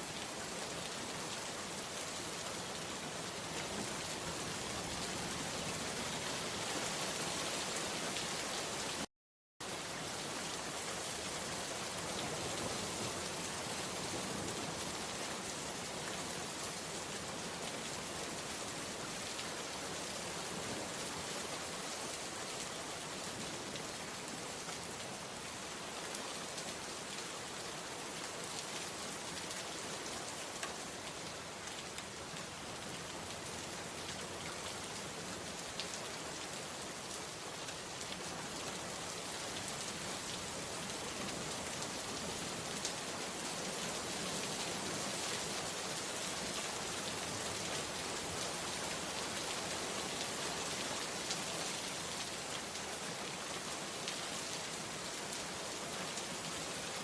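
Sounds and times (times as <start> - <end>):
rain pattering on surfaces: 0.1 - 57.0.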